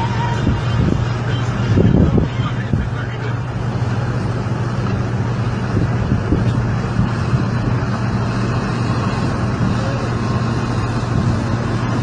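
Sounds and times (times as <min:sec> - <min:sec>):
engine humming: 0:00.0 - 0:12.0
loud rushing noise: 0:00.0 - 0:12.0.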